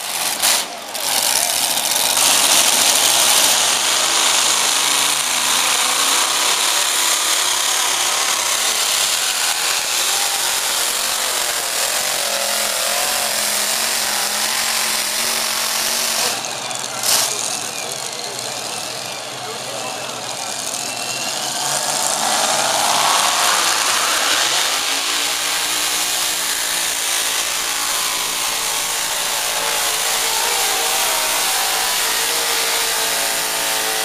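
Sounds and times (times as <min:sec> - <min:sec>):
pulling tractor engine at full throttle: 0:00.0 - 0:34.0.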